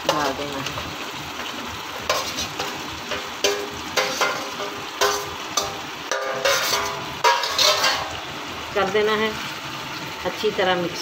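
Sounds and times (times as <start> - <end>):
light sizzle from a pan: 0.0 - 11.0.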